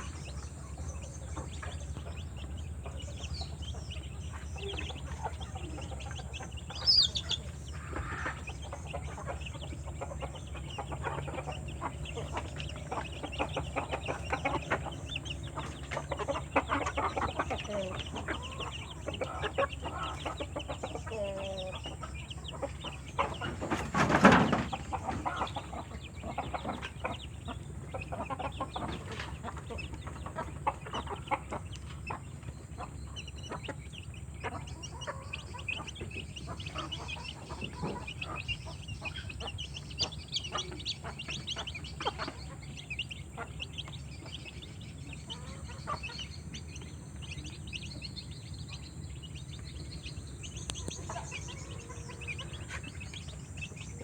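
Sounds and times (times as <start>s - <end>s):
chickens clucking: 0.0s - 54.0s
chickens pecking taps and clicks: 0.1s - 54.0s.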